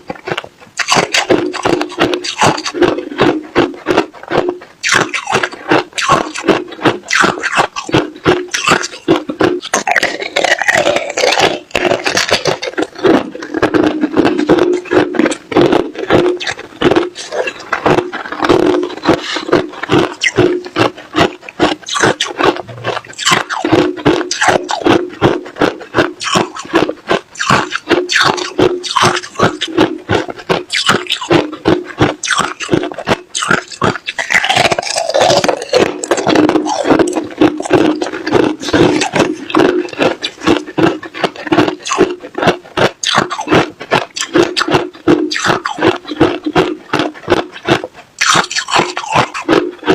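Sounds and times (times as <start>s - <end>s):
ice being chewed and crunched: 0.0s - 49.9s.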